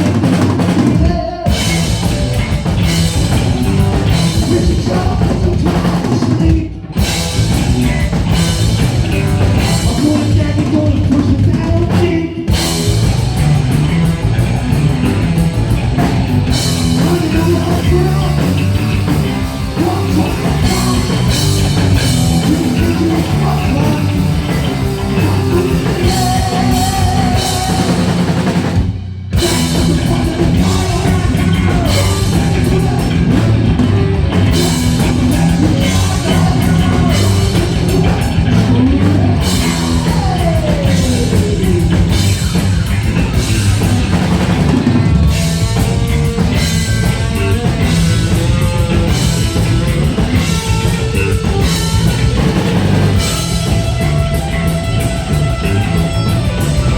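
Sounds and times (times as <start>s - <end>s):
bass guitar: 0.0s - 56.9s
distorted electric guitars: 0.0s - 56.9s
pounding drum kit: 0.0s - 56.9s.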